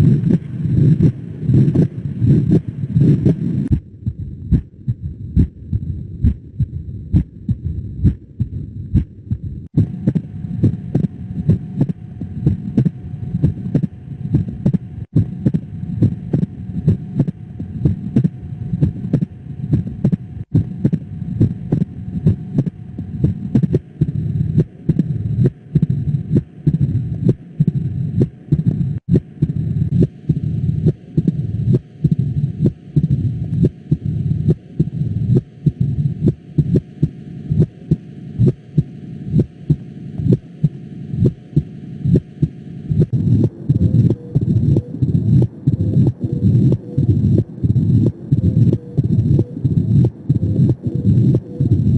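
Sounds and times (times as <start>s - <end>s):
faint steady hum: 0.0s - 51.9s
heartbeats through stethoscope: 0.0s - 51.9s.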